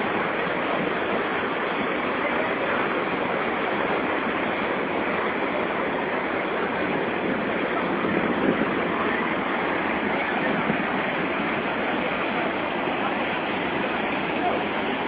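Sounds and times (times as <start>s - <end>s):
rushing water of rapids: 0.0s - 15.0s.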